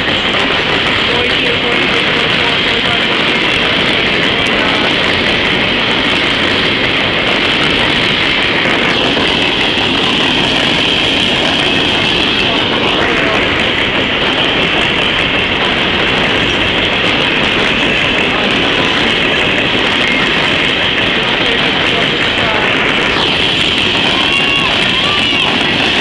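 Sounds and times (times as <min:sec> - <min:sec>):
steel wheels on rails: 0:00.0 - 0:26.0.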